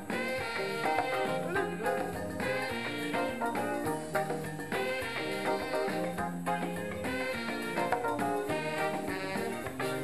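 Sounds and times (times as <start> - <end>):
calypso band playing: 0.0 - 10.0.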